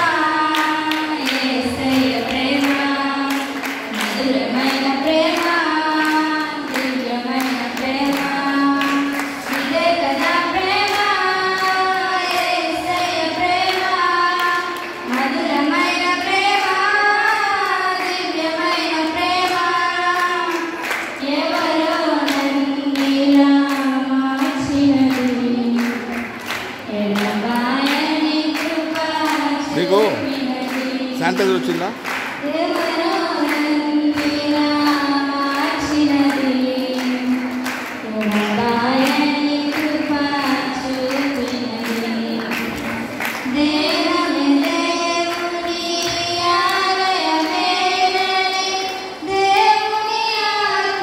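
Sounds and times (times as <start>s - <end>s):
women singing through loudspeaker: 0.0s - 51.0s.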